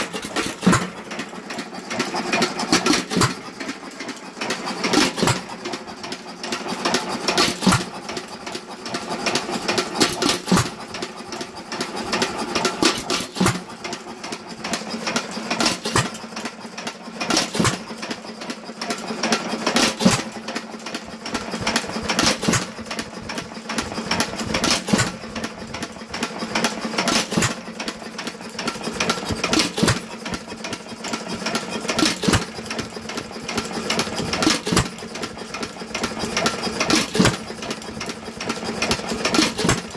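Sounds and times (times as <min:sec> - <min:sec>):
engine firing beats: 0:00.0 - 0:39.9
engine mechanical clatter: 0:00.0 - 0:39.9.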